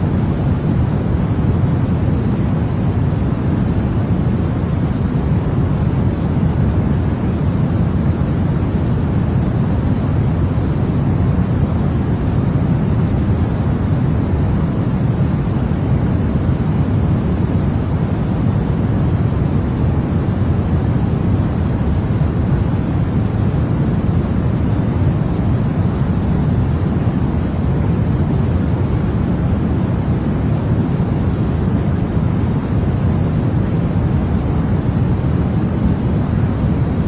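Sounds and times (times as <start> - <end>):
deep white noise: 0.0 - 37.0.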